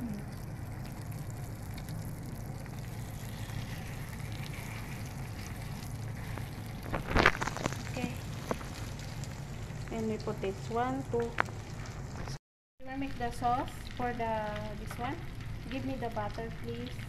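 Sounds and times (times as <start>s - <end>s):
fish sizzling in a pan: 0.0s - 12.3s, 13.0s - 17.0s.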